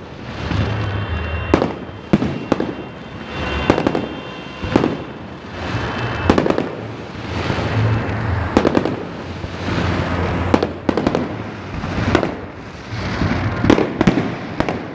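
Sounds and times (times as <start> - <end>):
rumble of distant fireworks: 0.0 - 14.9.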